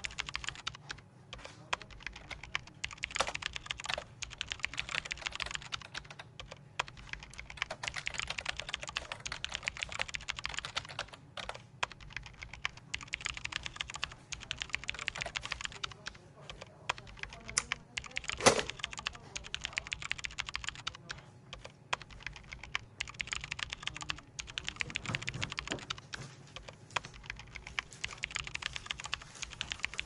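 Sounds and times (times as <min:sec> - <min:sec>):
keyboard typing: 0:00.0 - 0:30.0
low room hum: 0:00.0 - 0:30.0.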